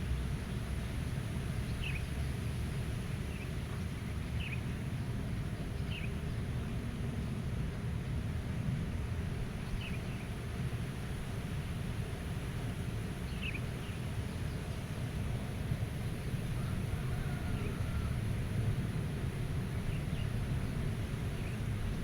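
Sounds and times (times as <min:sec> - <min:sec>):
low rumble of wind: 0:00.0 - 0:22.0.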